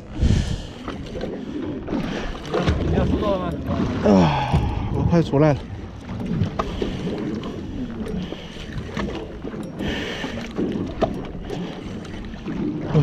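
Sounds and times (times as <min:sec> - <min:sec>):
sea water washing around boat: 0:00.0 - 0:13.0
wind: 0:00.0 - 0:13.0.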